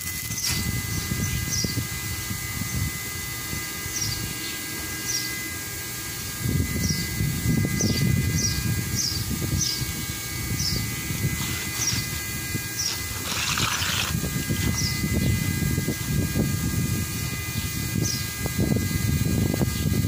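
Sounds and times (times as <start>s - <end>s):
steady high whine: 0.0s - 19.7s.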